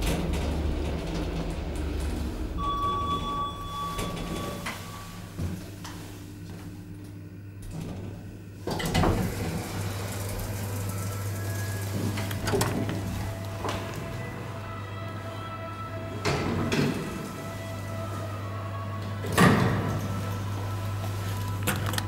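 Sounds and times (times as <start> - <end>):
elevator doors sliding open: 0.0 - 22.0
elevator running hum: 0.0 - 22.0.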